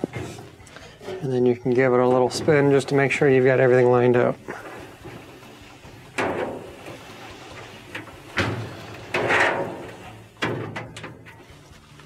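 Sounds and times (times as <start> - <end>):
dryer drum rolling: 0.0 - 12.0.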